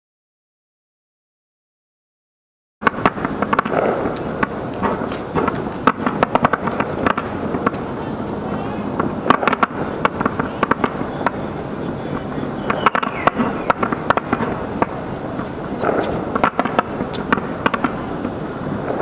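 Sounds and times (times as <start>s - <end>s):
fireworks bangs and pops: 2.8s - 19.0s
steady background rumble: 2.8s - 19.0s.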